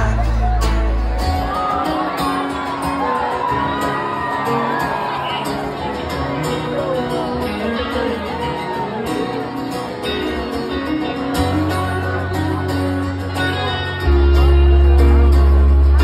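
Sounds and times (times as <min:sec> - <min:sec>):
crowd voices: 0:00.0 - 0:16.0
live country music with guitars: 0:00.0 - 0:16.0.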